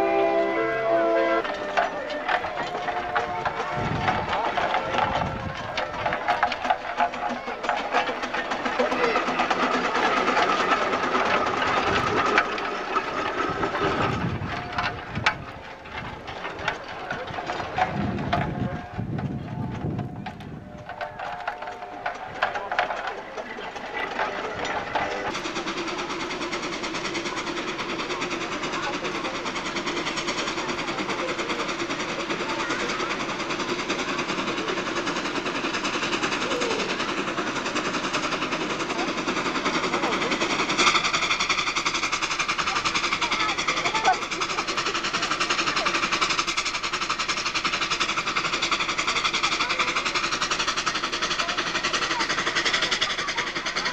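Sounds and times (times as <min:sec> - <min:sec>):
hissing steam: 0:00.0 - 0:18.7, 0:21.2 - 0:53.9
steam engine exhaust beat: 0:00.0 - 0:53.9.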